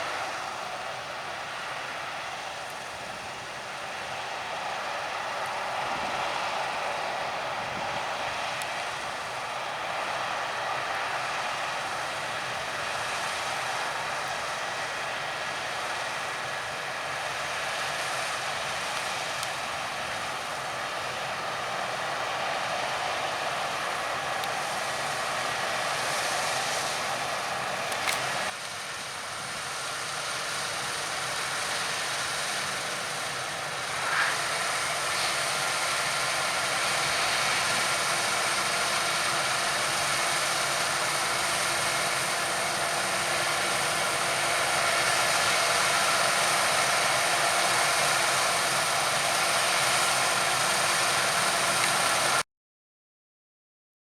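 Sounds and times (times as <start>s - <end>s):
harvest machinery running: 0.0s - 52.4s.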